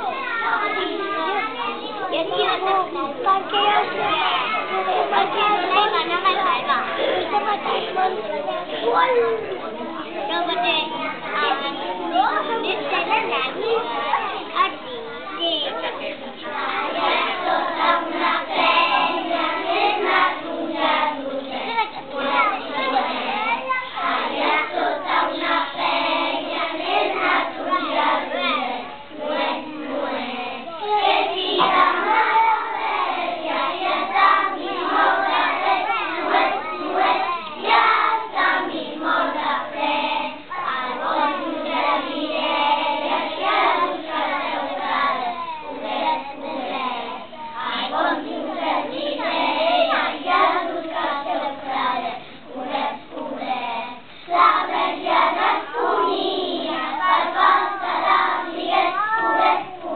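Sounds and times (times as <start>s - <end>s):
young children singing: 0.0s - 59.9s.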